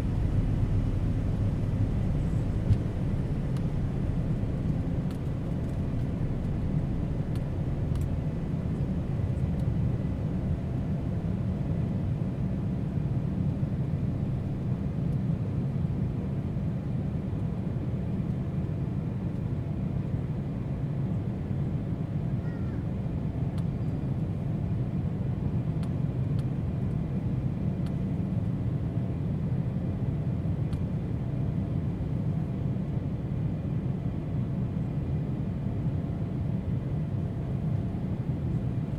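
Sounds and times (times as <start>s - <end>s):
aircraft cabin low rumble: 0.0s - 38.9s.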